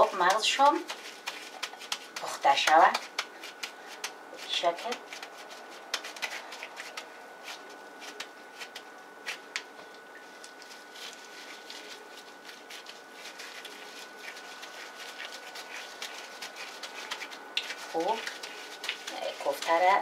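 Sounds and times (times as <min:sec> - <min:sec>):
hands patting raw meat: 0:00.0 - 0:20.0.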